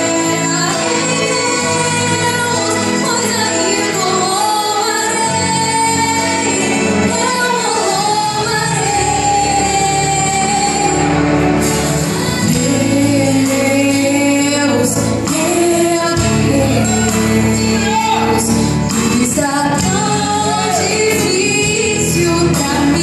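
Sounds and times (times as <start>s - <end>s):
instrumental accompaniment: 0.0s - 23.0s
woman singing into microphone: 0.0s - 23.0s.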